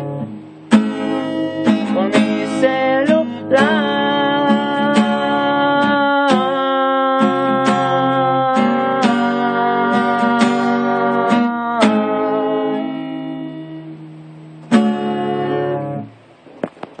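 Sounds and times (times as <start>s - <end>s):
acoustic guitar strums: 0.0s - 17.0s.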